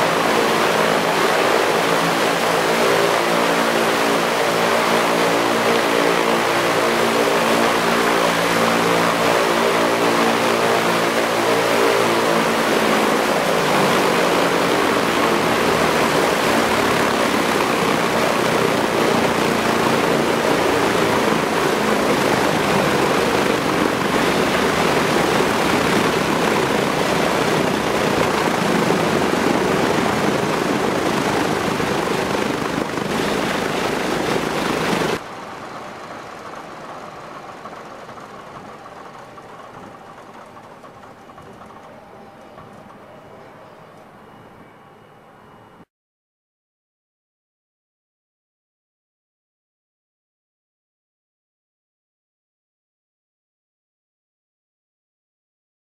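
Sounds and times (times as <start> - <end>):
twin propeller engines droning: 0.0 - 45.8.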